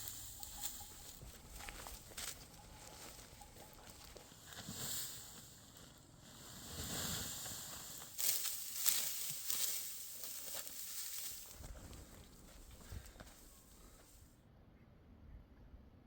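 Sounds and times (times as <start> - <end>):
dry vegetation rustling and crackling: 0.0 - 14.3.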